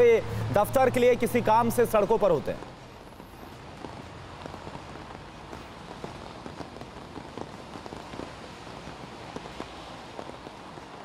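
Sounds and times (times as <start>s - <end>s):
heavy rain pouring: 0.0s - 11.0s
raindrops ticking on hard surfaces: 0.0s - 11.0s.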